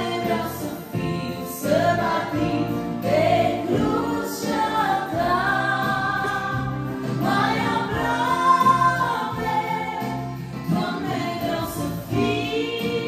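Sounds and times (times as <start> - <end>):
electronic keyboard accompaniment: 0.0 - 13.0.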